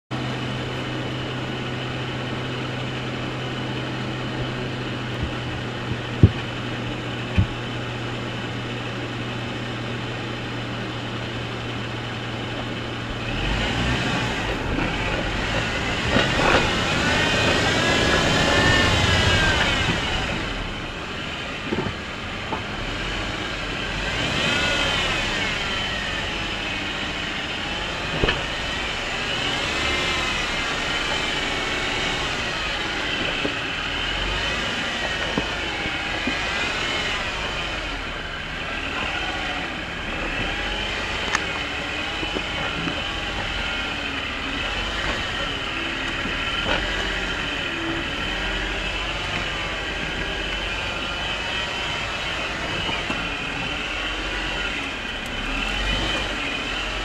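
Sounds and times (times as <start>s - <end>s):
car engine idling: 0.1s - 57.0s
car driving over sand and rock: 1.8s - 9.4s, 12.5s - 57.0s.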